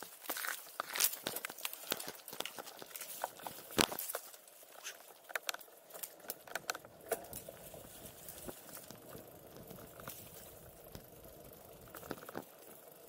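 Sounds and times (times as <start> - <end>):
tyres crunching on gravel: 0.0 - 13.0
bike rattling over bumps: 0.1 - 13.0.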